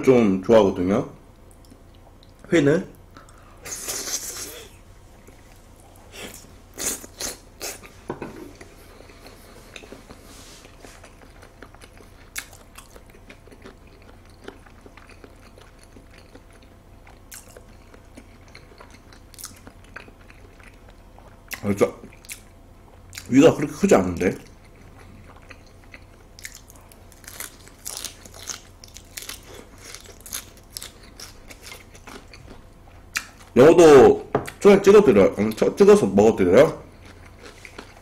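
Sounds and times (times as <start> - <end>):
quiet chewing: 1.4 - 23.3, 24.2 - 33.6, 36.8 - 38.0
person eating raw fish: 3.1 - 23.3, 24.4 - 33.6, 36.8 - 38.0.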